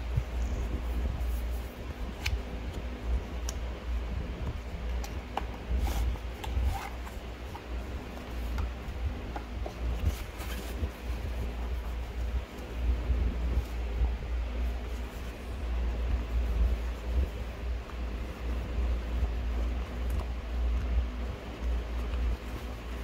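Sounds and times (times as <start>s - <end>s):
steady low rumble: 0.0s - 23.0s
cardboard and fabric pouch rustling: 4.5s - 23.0s.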